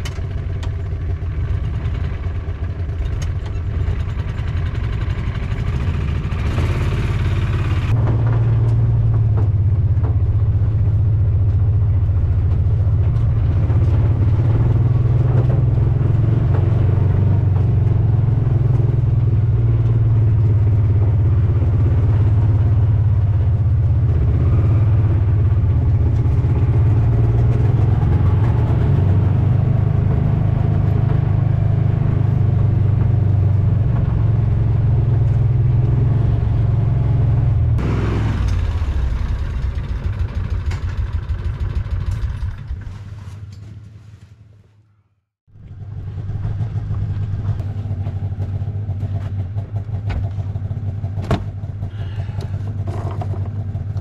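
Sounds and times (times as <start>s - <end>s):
vehicle engine from inside cab: 0.0s - 54.0s.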